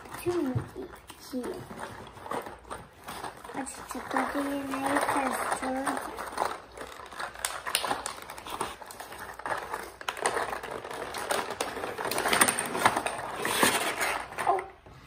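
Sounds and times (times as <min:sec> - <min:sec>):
cardboard packaging torn and crumpled: 0:01.9 - 0:14.7.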